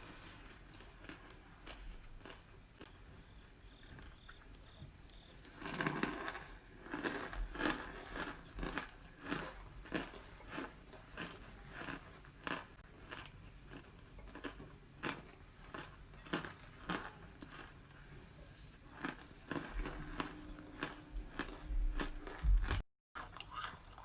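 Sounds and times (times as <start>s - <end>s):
crunchy chewing: 0.0s - 24.0s.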